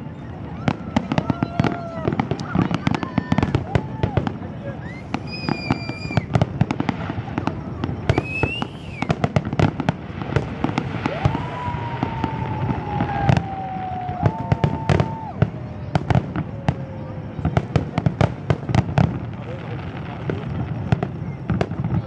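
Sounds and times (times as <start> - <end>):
fireworks bangs and crackling: 0.0 - 22.0
fireworks whistling: 0.0 - 22.0.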